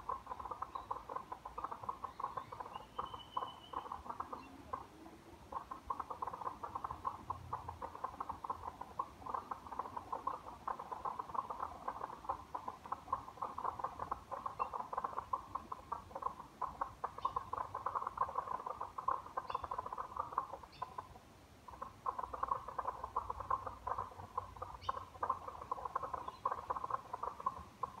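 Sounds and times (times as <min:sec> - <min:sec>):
frogs calling: 0:00.0 - 0:28.0.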